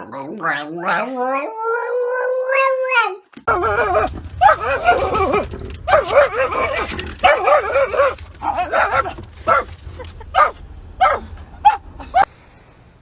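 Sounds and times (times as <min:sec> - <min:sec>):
dog crying: 0:00.6 - 0:12.3
dog whining: 0:00.6 - 0:12.3.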